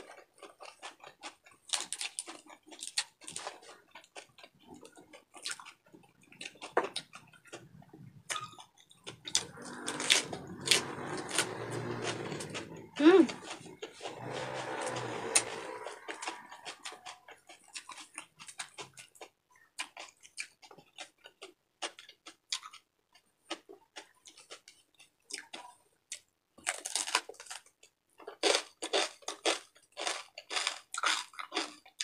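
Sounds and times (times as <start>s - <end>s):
crunching crispy fried pork: 0.0s - 32.0s.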